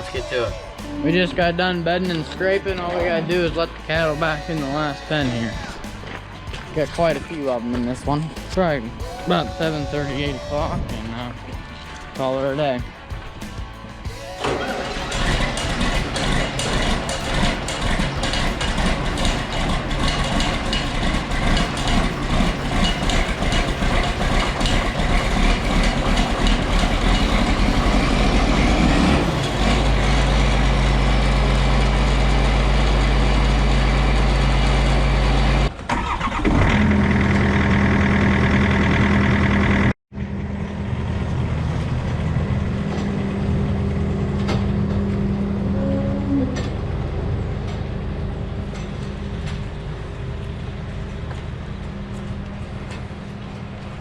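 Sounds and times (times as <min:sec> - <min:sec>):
farm machinery engine running: 0:00.0 - 0:45.9, 0:46.6 - 0:54.0
engine rattling and clattering: 0:00.0 - 0:54.0.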